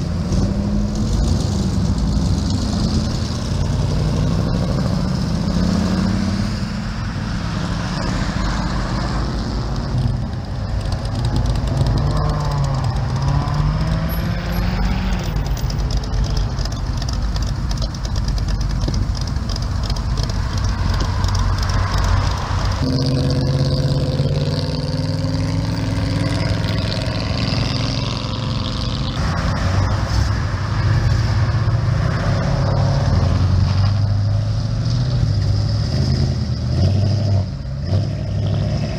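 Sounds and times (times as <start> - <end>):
car engines accelerating: 0.0 - 38.9.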